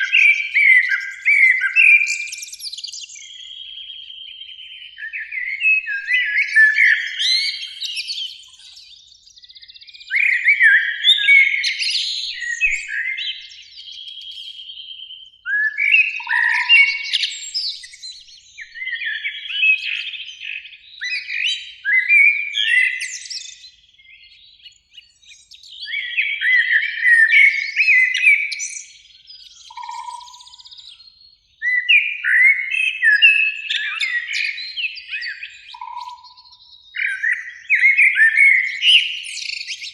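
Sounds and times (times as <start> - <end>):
blackbird singing: 0.0 - 39.9.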